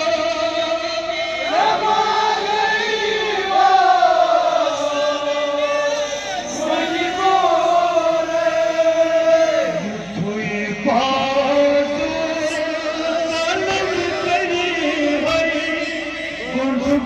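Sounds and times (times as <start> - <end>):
man reciting into a microphone: 0.0 - 17.0
men chanting a lament: 0.0 - 17.0.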